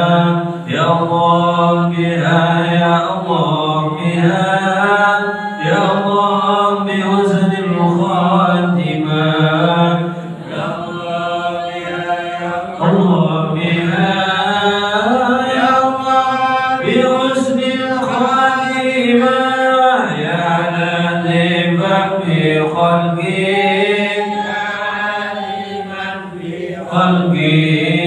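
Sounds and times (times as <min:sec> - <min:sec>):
person chanting melodically: 0:00.0 - 0:28.0.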